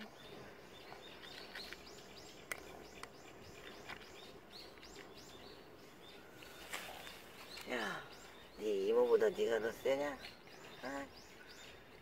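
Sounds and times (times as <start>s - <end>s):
faint outdoor hiss: 0.0s - 12.0s
small birds chirping: 0.0s - 12.0s.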